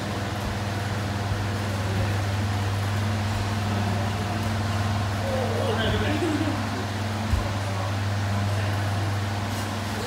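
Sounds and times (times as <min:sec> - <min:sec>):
electric fans humming: 0:00.0 - 0:10.0.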